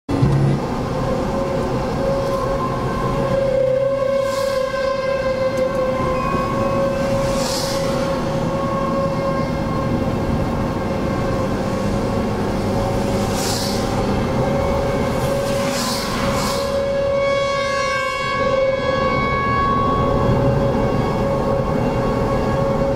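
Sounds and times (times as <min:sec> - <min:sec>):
tornado warning siren: 0:00.2 - 0:22.9.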